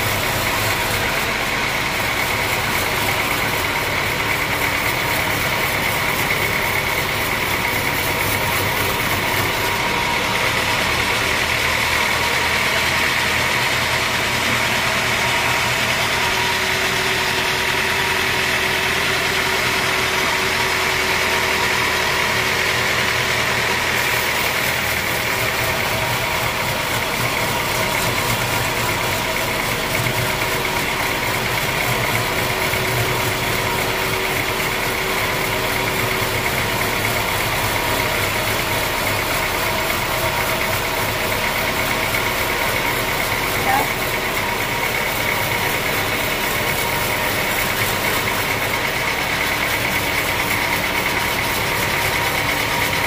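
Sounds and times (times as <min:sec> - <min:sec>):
band sawmill cutting wood: 0:00.0 - 0:53.0
high saw blade whine: 0:00.0 - 0:53.0.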